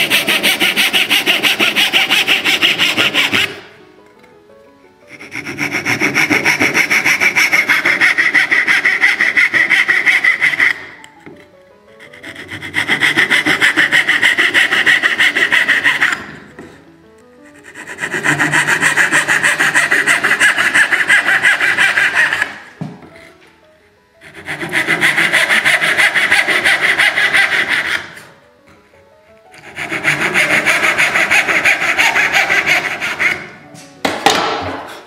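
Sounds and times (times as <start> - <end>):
hand saw cutting wood: 0.0 - 3.6, 5.1 - 11.4, 12.0 - 16.5, 17.6 - 23.3, 24.2 - 28.3, 29.6 - 33.6.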